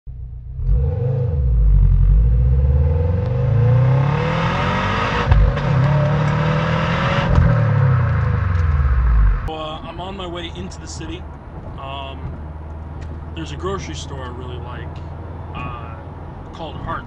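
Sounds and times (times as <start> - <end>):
car exhaust accelerating: 0.1 - 16.6.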